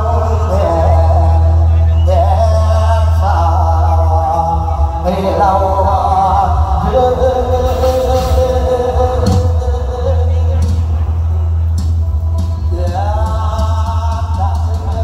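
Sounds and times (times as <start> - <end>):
man singing ornamented melody: 0.0 - 11.3, 12.6 - 15.0
amplified backing music with heavy bass: 0.0 - 15.0.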